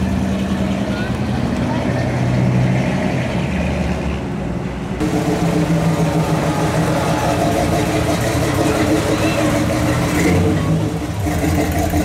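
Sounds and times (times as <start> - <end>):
car engines passing slowly: 0.0 - 12.0.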